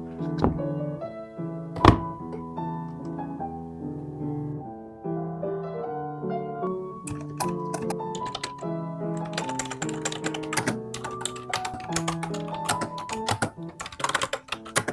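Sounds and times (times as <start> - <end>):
soft piano music: 0.0 - 14.9.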